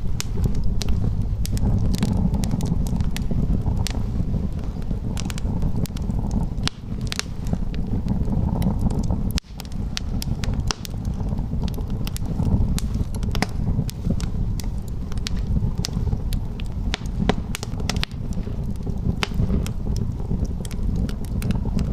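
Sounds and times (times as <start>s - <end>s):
low rumble of flames: 0.0s - 21.9s
wood fire crackling and popping: 0.0s - 21.9s.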